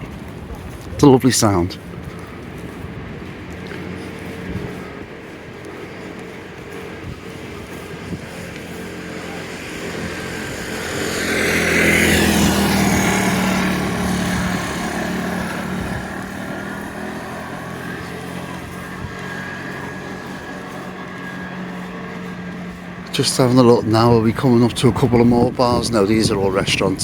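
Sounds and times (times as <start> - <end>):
vehicle passing by: 0.0 - 27.0.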